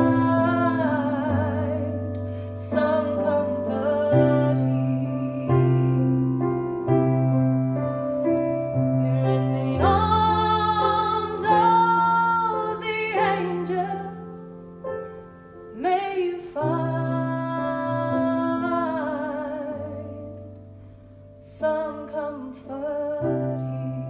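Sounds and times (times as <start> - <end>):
woman singing: 0.0 - 7.2, 8.6 - 14.5, 15.7 - 20.5, 21.4 - 24.0
keyboard piano chords: 0.0 - 24.0.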